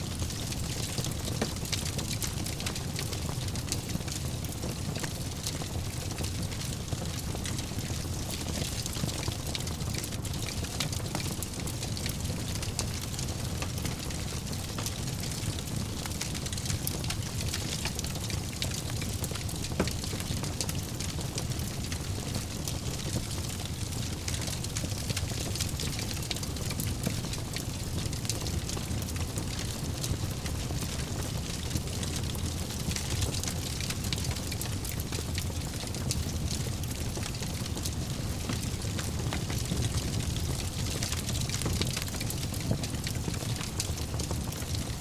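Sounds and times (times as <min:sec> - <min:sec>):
fire crackling and popping: 0:00.0 - 0:45.0
wood fire burning: 0:00.0 - 0:45.0.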